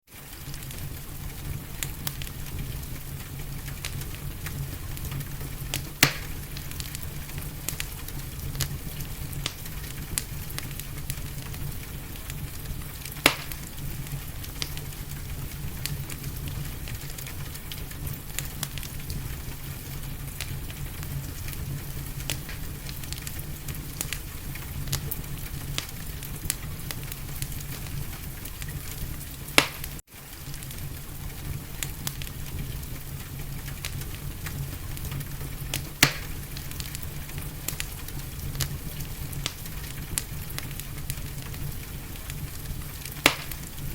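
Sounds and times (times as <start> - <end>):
wood fire crackling: 0.0 - 43.9
fire popping: 0.1 - 43.9
low rumble and hiss: 0.2 - 43.9.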